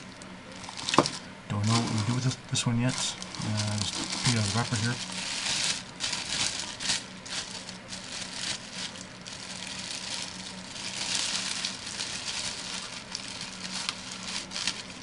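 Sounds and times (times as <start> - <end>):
faint low hum: 0.0 - 15.0
plastic wrapper crinkling: 0.0 - 15.0.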